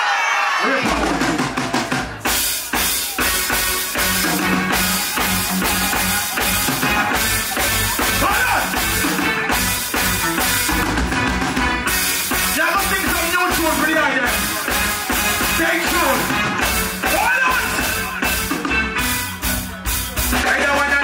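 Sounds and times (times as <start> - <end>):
reggae band playing: 0.0 - 21.0.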